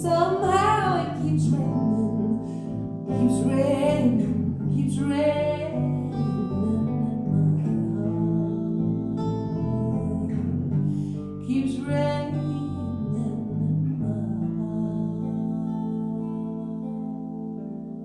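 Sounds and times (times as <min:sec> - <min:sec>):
guitar chords: 0:00.0 - 0:18.0
slow soul ballad band: 0:00.0 - 0:18.0.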